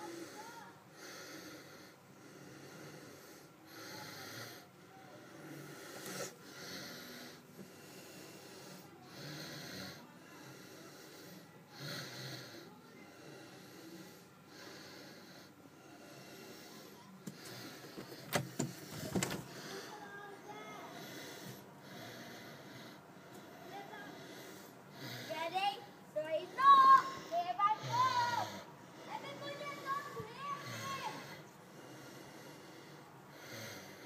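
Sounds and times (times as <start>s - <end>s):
person breathing close to microphone: 0.0s - 34.0s.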